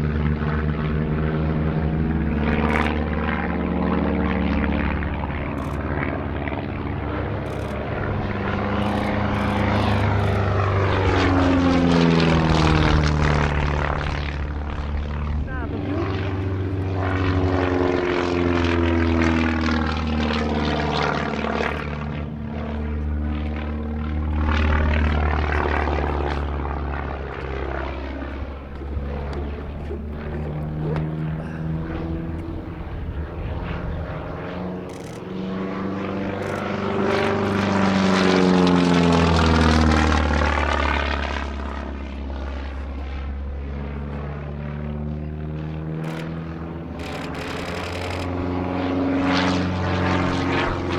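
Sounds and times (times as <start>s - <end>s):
propeller airplanes flying past: 0.0s - 50.9s.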